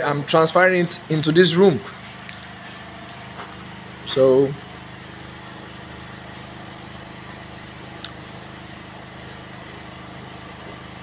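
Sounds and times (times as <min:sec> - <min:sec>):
motor humming: 0:00.2 - 0:11.0.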